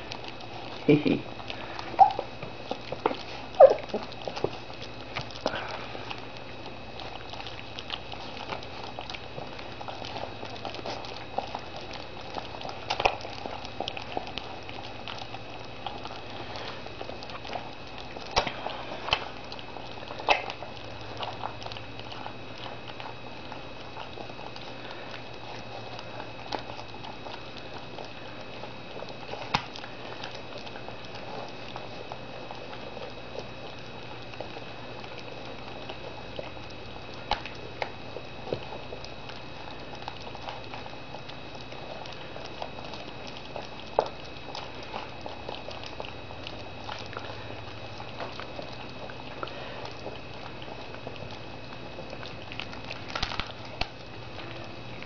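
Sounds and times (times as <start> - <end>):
puppies eating wet food: 0.0 - 55.0.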